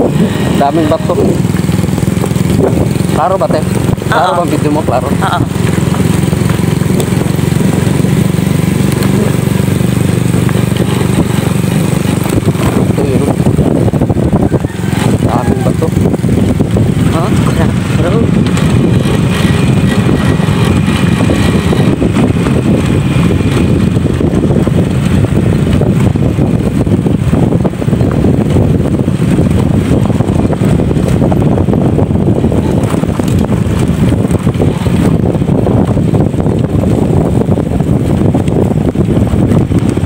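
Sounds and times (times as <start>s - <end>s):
motorcycle engine and road rumble: 0.0s - 40.0s.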